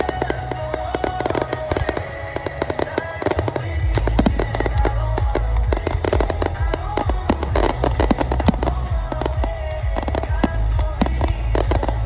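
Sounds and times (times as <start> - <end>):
fireworks popping and crackling: 0.0 - 12.0
music playing: 0.0 - 12.0.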